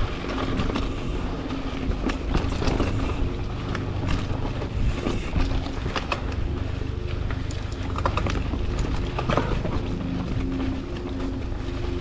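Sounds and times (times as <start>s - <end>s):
bike rattling over rocky trail: 0.0s - 12.0s
faint hum: 0.0s - 12.0s
wind rumble on microphone: 0.0s - 12.0s.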